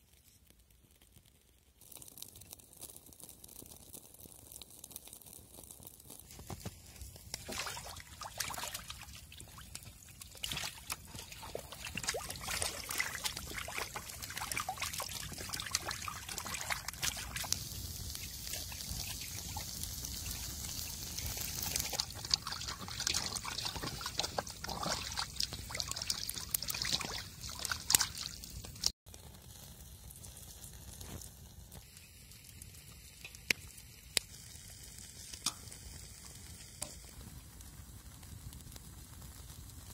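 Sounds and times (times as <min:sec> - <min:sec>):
campfire crackling and popping: 0:00.0 - 0:39.9
fire hissing: 0:00.0 - 0:39.9.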